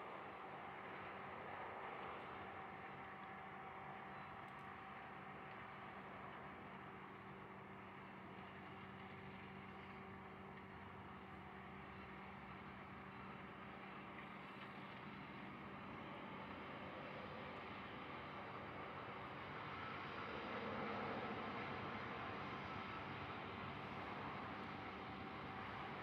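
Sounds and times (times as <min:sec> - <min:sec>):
distant diesel locomotives droning: 0:00.0 - 0:26.0.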